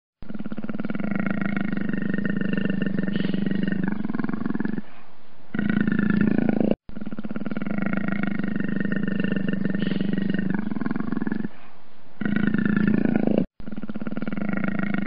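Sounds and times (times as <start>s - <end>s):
leopard growling: 0.2s - 4.9s, 5.5s - 11.6s, 12.2s - 15.0s.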